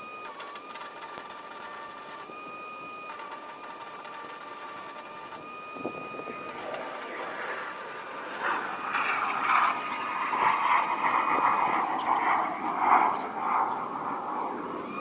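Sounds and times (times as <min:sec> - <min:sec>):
steady high whine: 0:00.0 - 0:15.0
welding arc crackling: 0:00.2 - 0:02.3, 0:03.1 - 0:05.4, 0:06.3 - 0:14.8.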